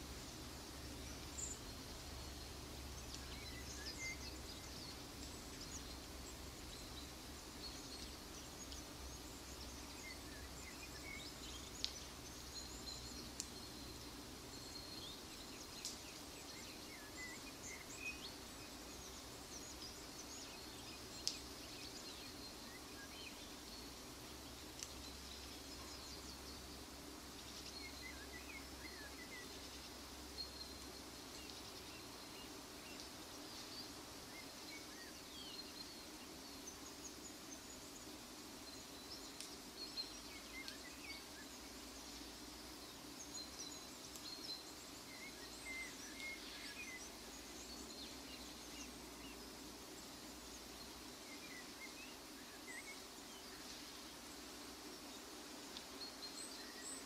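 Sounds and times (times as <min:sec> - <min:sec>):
high insect-like hiss: 0:00.0 - 0:57.0.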